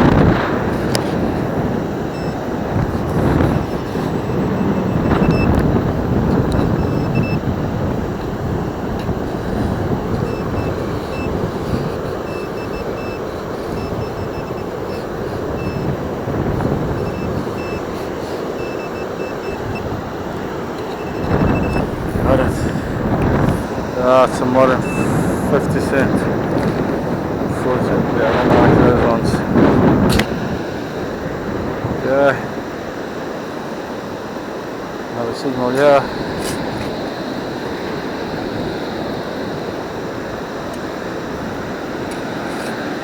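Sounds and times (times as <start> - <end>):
surf: 0.0 - 43.0
wind on microphone: 0.0 - 43.0
metal detector beeping: 0.7 - 30.3, 35.1 - 43.0.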